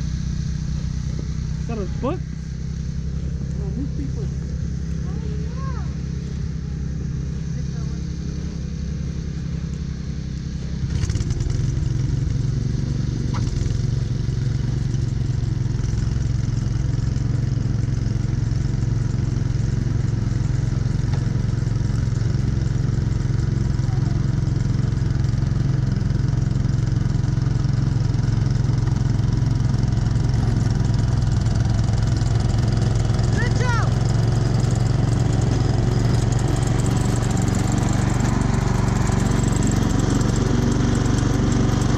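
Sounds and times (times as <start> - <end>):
snowblower engine running: 0.0 - 41.9.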